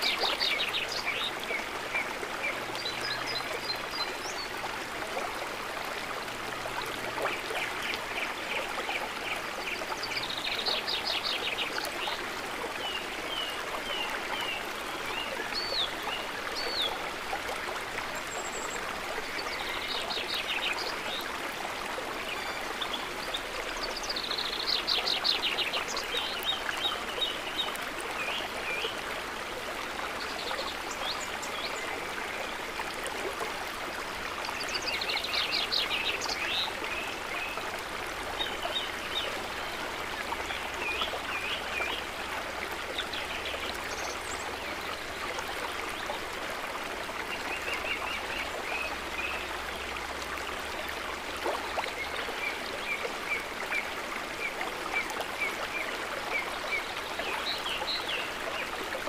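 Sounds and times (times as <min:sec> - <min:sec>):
trickling flowing water: 0:00.0 - 0:59.0.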